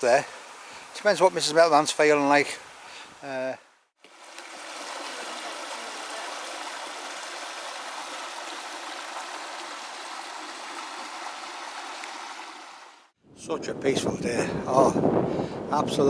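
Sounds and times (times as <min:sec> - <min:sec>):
stream water running over rocks: 0:00.0 - 0:13.2.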